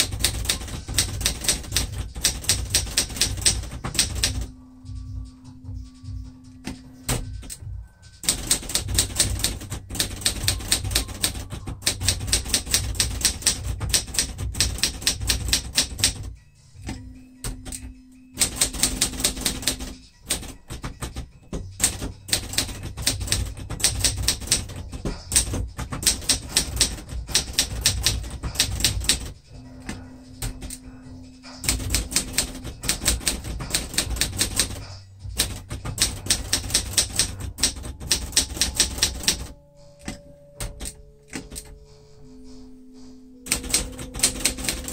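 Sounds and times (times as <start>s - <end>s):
manual typewriter typing: 0.0s - 4.6s, 8.2s - 16.4s, 17.4s - 30.8s, 31.6s - 41.8s, 43.4s - 44.9s.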